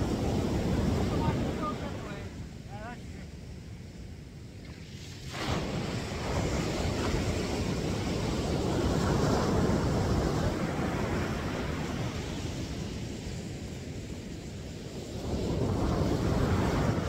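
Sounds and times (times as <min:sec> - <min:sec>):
wave breaking on beach: 0:00.0 - 0:03.2, 0:04.7 - 0:17.0.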